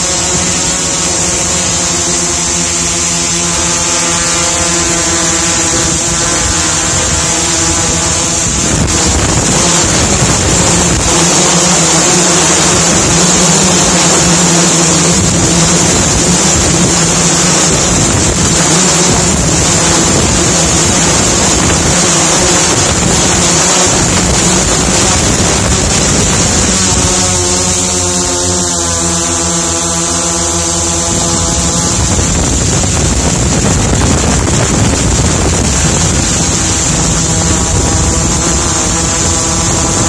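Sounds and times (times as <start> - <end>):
drone motors humming: 0.0 - 40.0
wind noise on microphone: 0.0 - 40.0.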